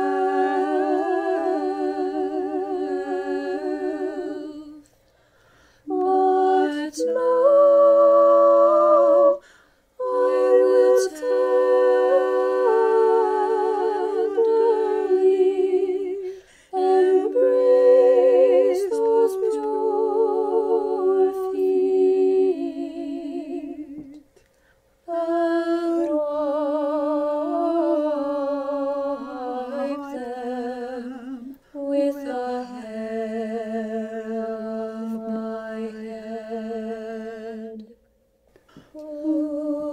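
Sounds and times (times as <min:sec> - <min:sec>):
choir singing chant: 0:00.0 - 0:04.9, 0:05.8 - 0:24.2, 0:25.1 - 0:38.0, 0:38.9 - 0:39.9.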